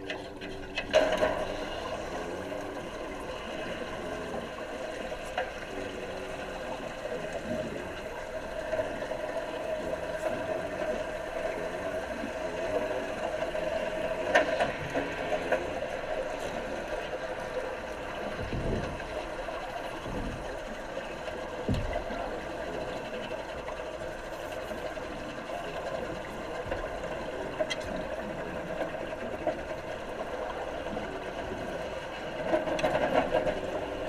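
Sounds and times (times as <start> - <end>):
underwater hum: 0.0 - 34.0
water bubbling and gurgling: 0.0 - 34.0.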